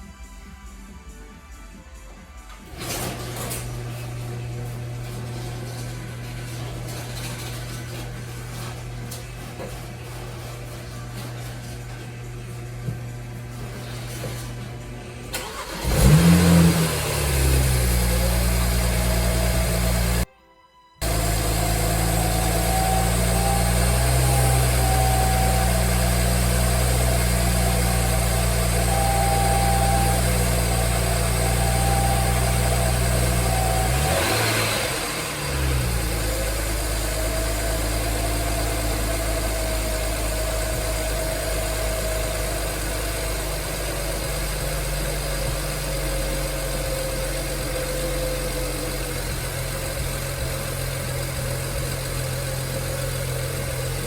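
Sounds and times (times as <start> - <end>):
car engine idling: 2.6 - 20.3, 21.0 - 54.0.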